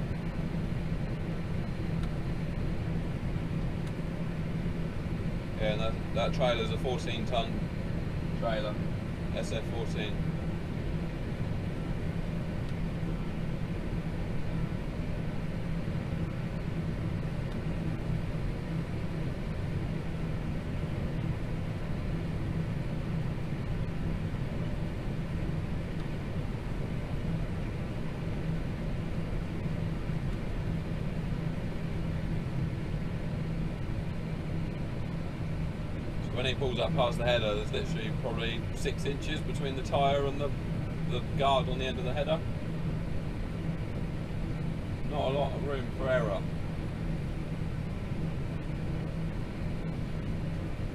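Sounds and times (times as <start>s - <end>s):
combine harvester drone: 0.0s - 50.9s.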